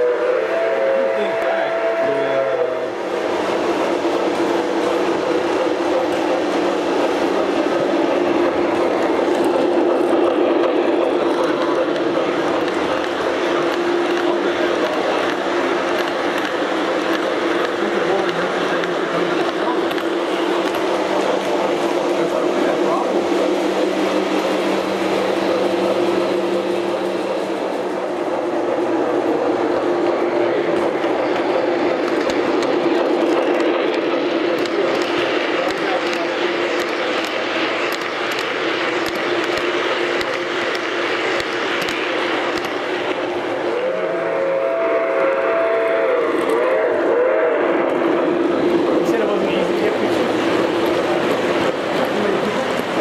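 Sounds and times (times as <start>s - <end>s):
model train running on track: 0.0s - 53.0s.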